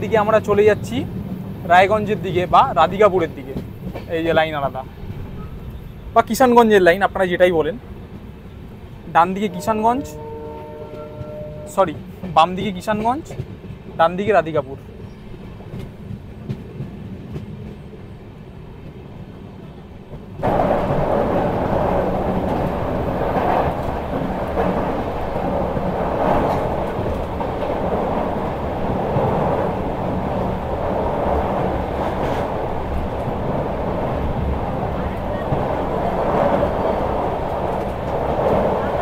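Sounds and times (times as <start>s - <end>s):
rail clacks: 0.0s - 5.7s, 9.1s - 18.1s, 20.0s - 39.0s
train wheels rumbling on rails: 0.0s - 39.0s.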